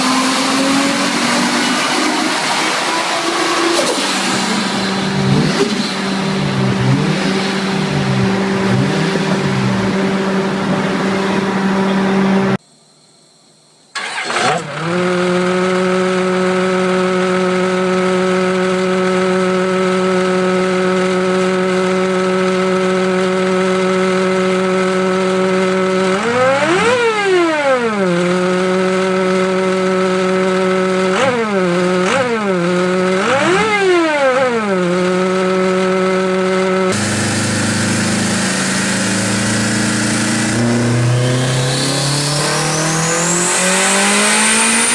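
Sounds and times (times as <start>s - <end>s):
car engine starting and revving: 0.0s - 12.6s, 14.0s - 44.9s.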